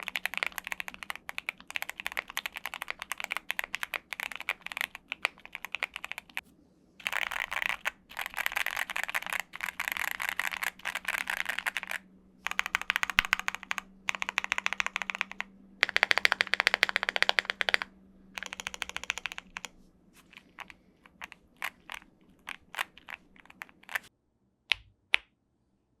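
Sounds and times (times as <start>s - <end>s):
mechanical keyboard typing: 0.0s - 6.4s, 7.0s - 24.1s.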